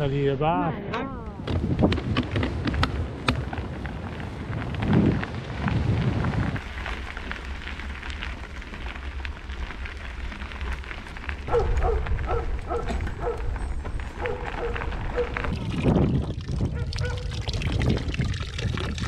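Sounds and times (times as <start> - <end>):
wind rumble on microphone: 1.3 - 19.0
bike tyres crunching over gravel: 1.4 - 17.2.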